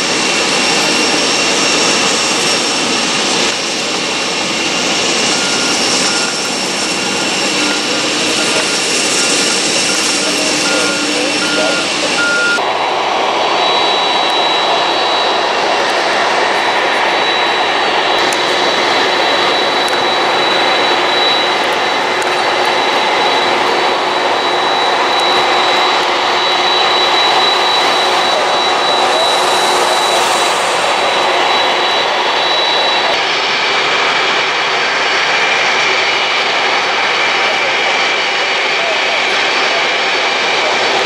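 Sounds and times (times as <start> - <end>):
jet engines roaring and whining: 0.0 - 41.0.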